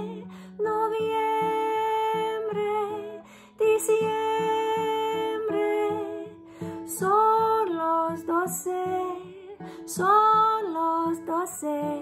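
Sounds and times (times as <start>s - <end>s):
strummed acoustic guitar: 0.0s - 12.0s
woman singing: 0.0s - 12.0s.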